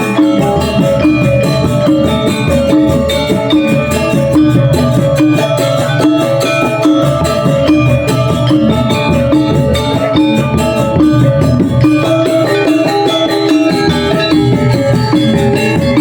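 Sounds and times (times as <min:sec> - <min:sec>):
metallophones and gong-chimes ringing: 0:00.0 - 0:16.0
low pulsing drum and gong: 0:00.1 - 0:16.0.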